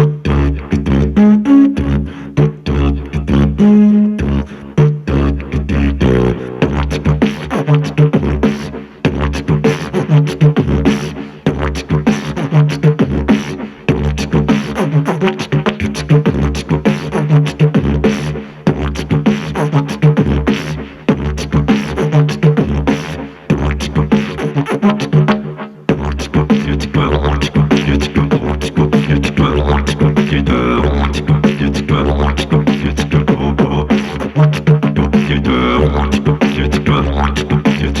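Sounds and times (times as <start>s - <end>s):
beatboxed kicks and snares: 0.0s - 38.0s
didgeridoo droning: 0.0s - 38.0s.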